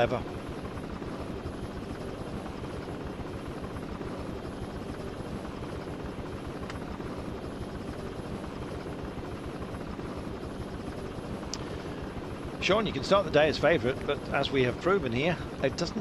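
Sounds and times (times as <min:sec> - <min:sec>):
helicopter rotor chopping: 0:00.0 - 0:16.0.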